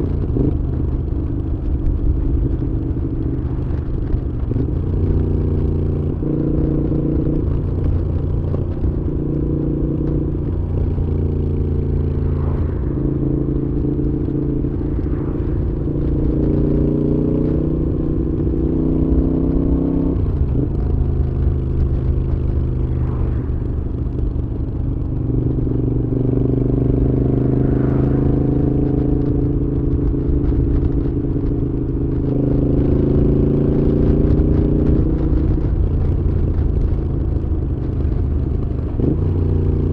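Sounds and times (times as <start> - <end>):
motorcycle engine changing pitch: 0.0 - 37.6.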